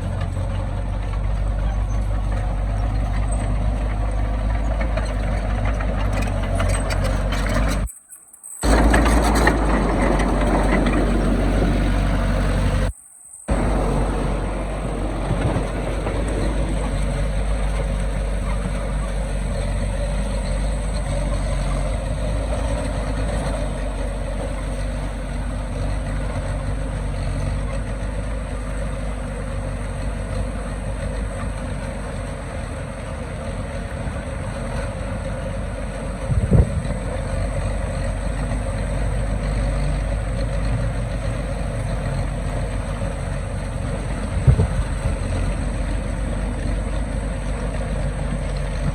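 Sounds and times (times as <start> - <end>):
heavy diesel engine running: 0.0 - 7.9, 8.6 - 48.9.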